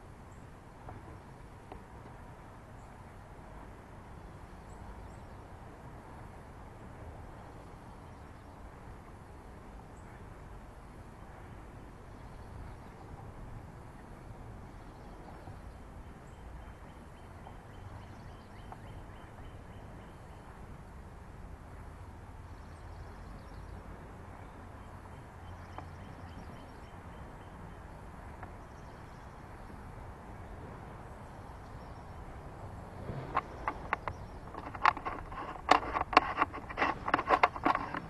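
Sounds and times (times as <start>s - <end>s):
low outdoor rumble: 0.0s - 38.0s.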